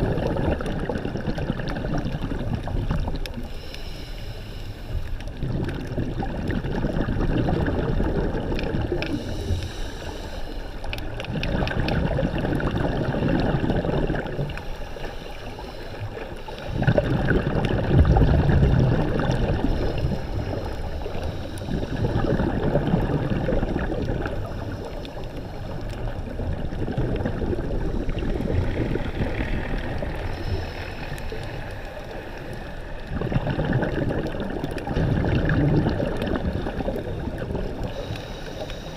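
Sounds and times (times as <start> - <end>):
sea water sloshing and gurgling: 0.0 - 38.9.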